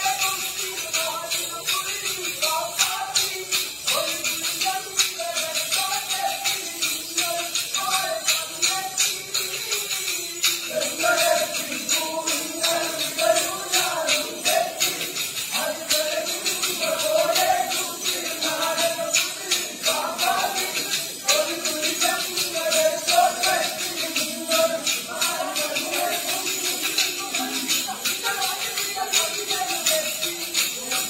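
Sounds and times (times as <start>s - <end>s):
group singing folk song: 0.0s - 31.0s.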